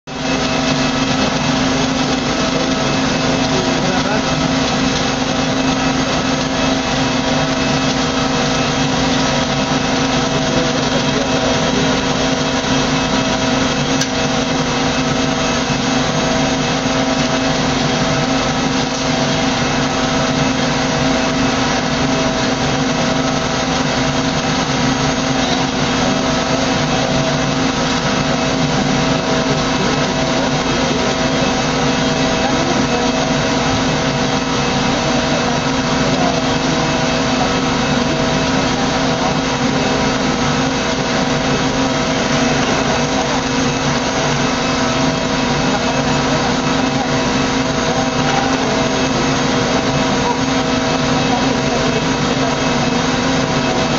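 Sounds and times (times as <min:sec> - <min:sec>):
jet machinery hum and whine: 0:00.1 - 0:53.9.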